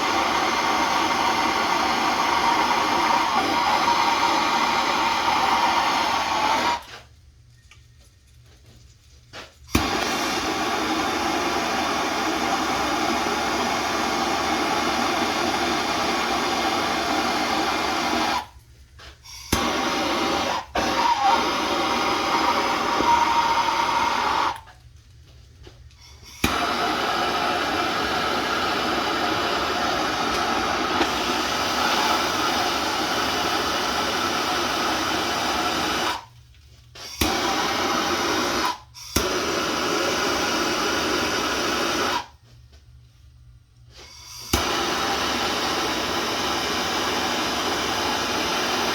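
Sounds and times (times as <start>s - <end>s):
gas torch hissing: 0.0s - 7.1s, 9.4s - 24.7s, 26.0s - 42.4s, 43.9s - 48.9s.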